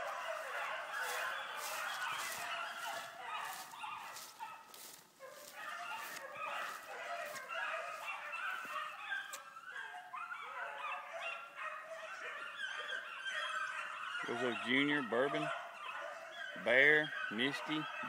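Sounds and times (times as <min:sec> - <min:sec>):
dogs baying: 0:00.0 - 0:18.0.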